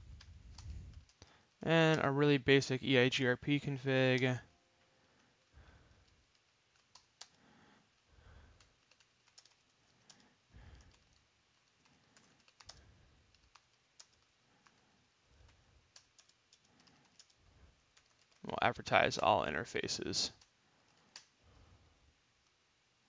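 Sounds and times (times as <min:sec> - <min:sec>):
faint keyboard typing: 0:00.0 - 0:02.8, 0:03.4 - 0:21.7.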